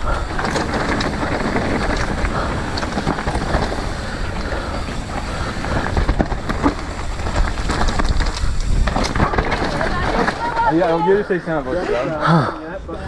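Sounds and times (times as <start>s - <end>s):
wind buffeting microphone: 0.0s - 11.0s
bike clicks and rattles: 0.0s - 11.9s.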